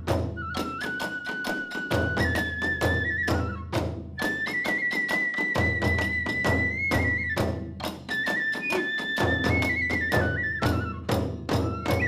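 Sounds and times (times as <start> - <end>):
bamboo flute high note: 0.0 - 12.0
fast drum strikes: 0.0 - 12.0.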